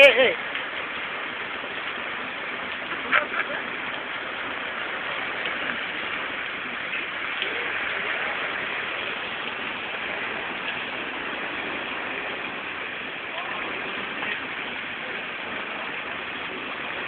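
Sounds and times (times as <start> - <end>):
heavy rain and hail: 0.0 - 17.0.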